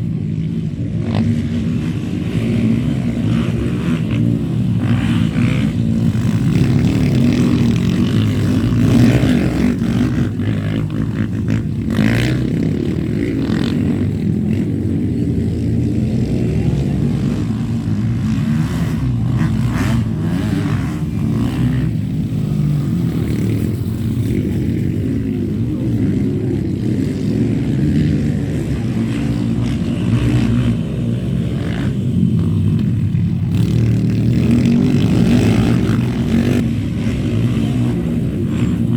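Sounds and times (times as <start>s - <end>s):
motocross motorcycle engines running: 0.0s - 38.9s.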